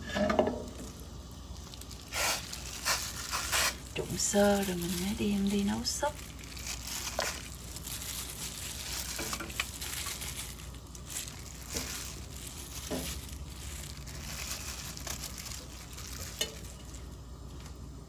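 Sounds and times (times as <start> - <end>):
water boiling in a pot: 0.0 - 18.0.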